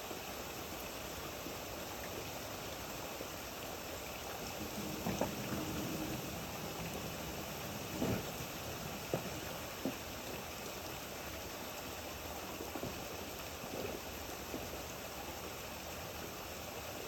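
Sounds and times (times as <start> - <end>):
steady rainfall hiss: 0.0 - 17.0.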